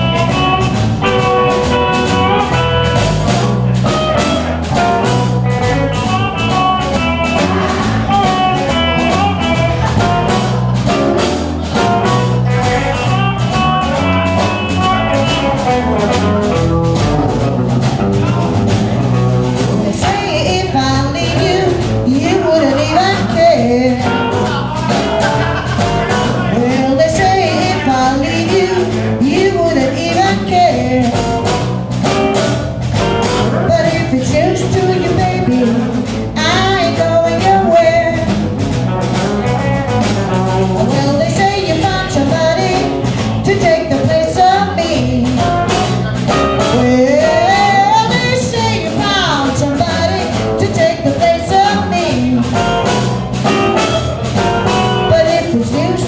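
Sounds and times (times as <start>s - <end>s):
live blues rock band playing: 0.0s - 56.0s.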